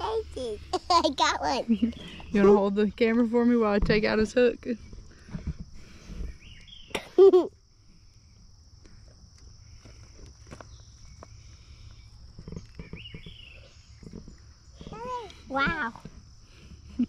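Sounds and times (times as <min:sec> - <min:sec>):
crickets shrilling: 0:00.0 - 0:17.0.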